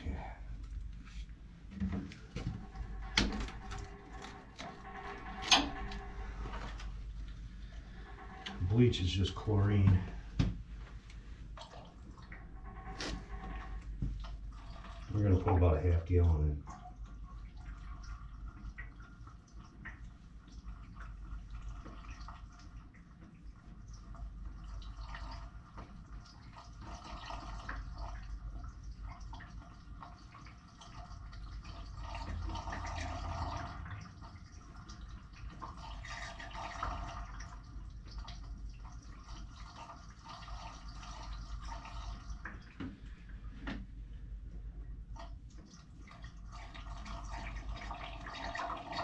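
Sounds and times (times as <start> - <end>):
liquid pouring and splashing: 0.0 - 43.6, 45.0 - 49.0
low steady hum: 0.0 - 49.0.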